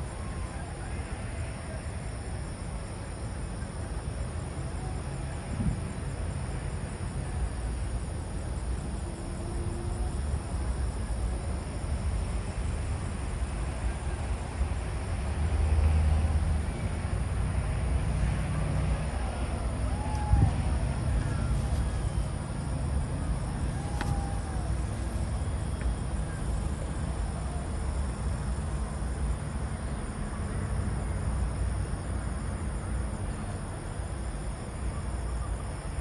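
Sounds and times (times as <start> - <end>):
high insect trill: 0.0 - 36.0.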